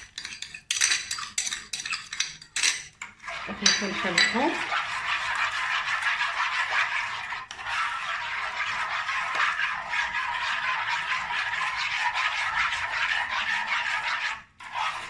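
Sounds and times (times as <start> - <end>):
utensil scraping bowl stirring custard: 0.0 - 15.0.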